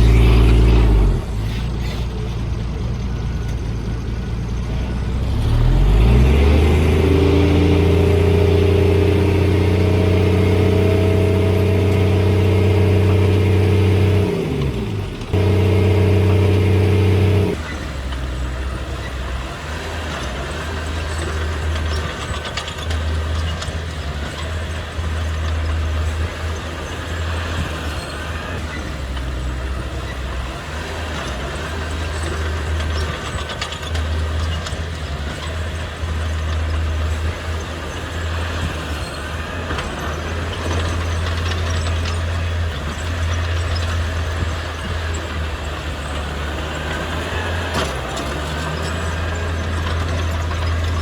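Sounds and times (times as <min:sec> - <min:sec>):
heavy diesel engine revving: 0:00.0 - 0:02.5, 0:04.5 - 0:51.0.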